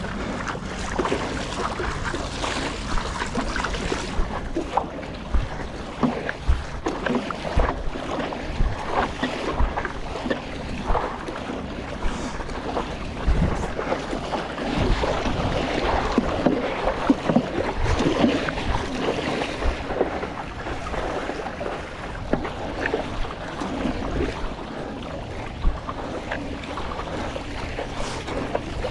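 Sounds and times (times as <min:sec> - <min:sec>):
water splashing around paddleboard: 0:00.0 - 0:28.9
wind rumbling on microphone: 0:00.0 - 0:28.9.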